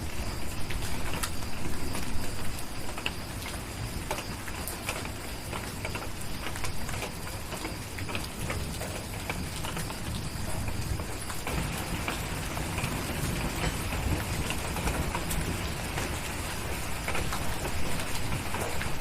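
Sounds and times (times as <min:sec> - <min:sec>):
rain hissing and pattering: 0:00.0 - 0:19.0.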